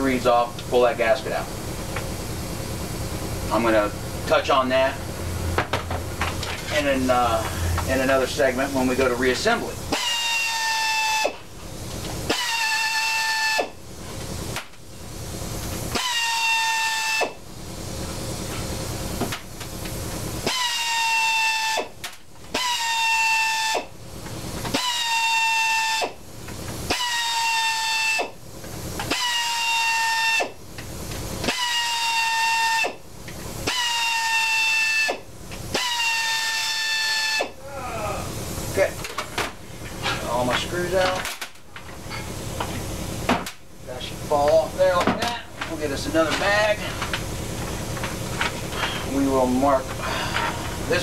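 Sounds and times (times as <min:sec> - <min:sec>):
pneumatic air ratchet whine: 0:00.0 - 0:43.6.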